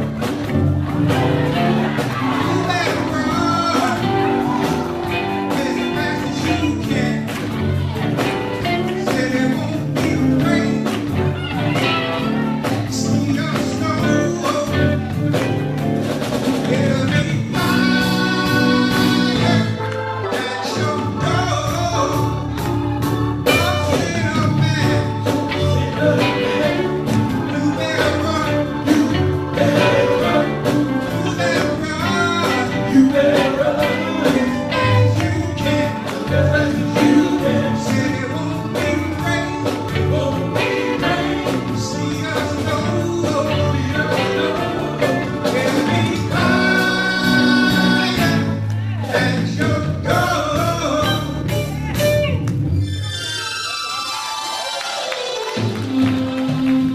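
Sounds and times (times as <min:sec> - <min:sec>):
live band with singing: 0:00.0 - 0:56.9.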